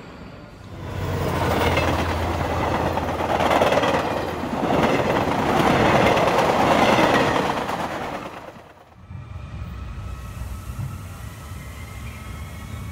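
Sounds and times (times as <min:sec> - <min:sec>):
train wheels rolling on rails: 0:00.0 - 0:12.9.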